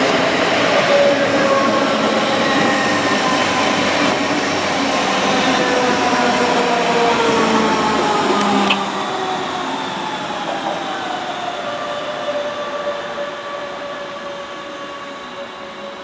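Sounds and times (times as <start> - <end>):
electric train whine: 0.0 - 16.0.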